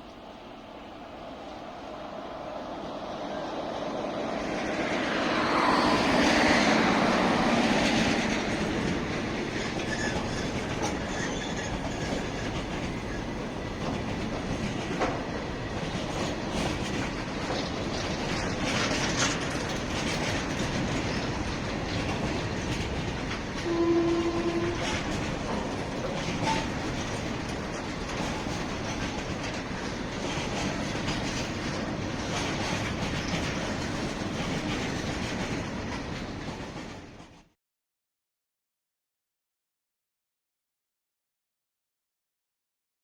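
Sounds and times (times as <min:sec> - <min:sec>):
train wheels clattering on rails: 0:00.0 - 0:37.6.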